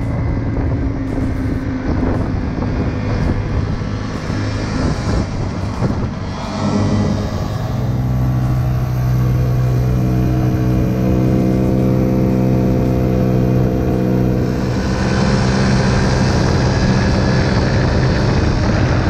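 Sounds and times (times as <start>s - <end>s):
scooter engine droning: 0.0s - 19.0s
wind and road rushing noise: 0.0s - 19.0s.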